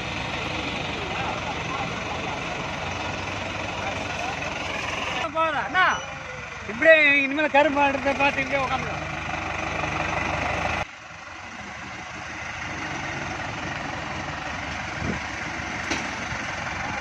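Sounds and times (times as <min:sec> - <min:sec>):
heavy diesel engine running: 0:00.0 - 0:17.0
quieter engine sound: 0:00.0 - 0:17.0.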